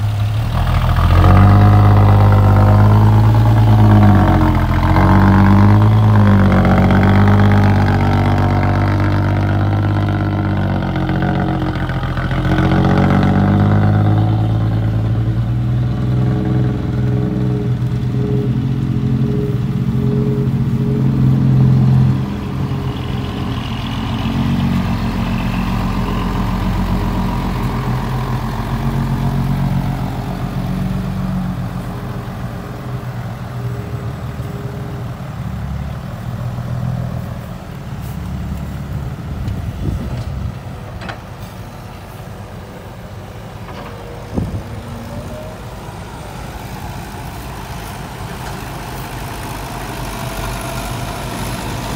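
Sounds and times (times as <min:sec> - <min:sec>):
diesel truck engines revving: 0:00.0 - 0:51.9.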